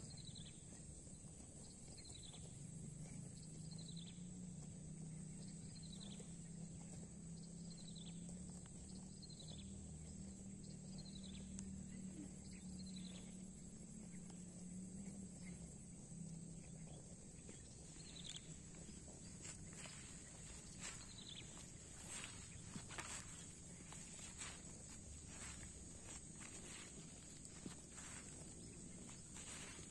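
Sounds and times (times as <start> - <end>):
faint low hum: 0.0 - 29.9
high insect drone: 3.3 - 29.9.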